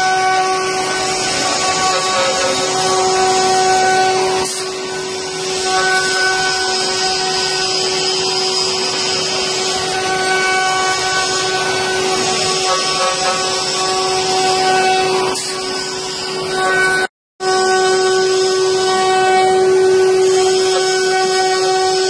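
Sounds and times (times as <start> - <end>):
router spindle whining: 0.0 - 22.0
hiss of bit cutting wood: 0.7 - 16.4, 17.9 - 22.0.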